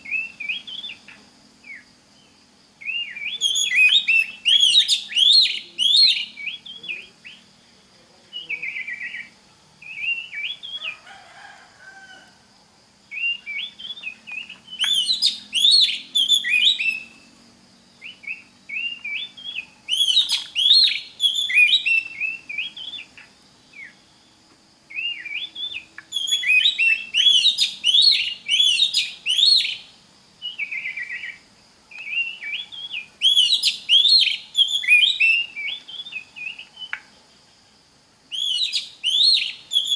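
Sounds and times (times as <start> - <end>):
magpie-robin singing: 0.0 - 7.5, 8.3 - 10.9, 13.1 - 17.2, 18.0 - 24.0, 24.9 - 37.0, 38.3 - 39.9.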